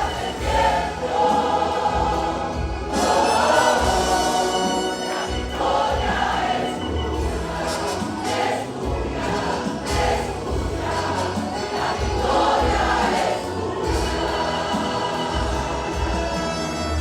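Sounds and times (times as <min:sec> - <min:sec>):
choir singing worship song: 0:00.0 - 0:17.0
instrumental backing: 0:00.0 - 0:17.0.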